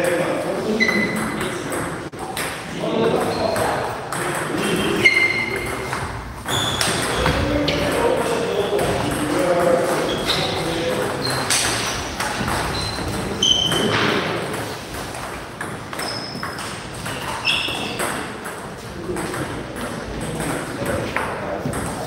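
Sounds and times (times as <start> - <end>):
table tennis balls clicking: 0.8 - 22.0.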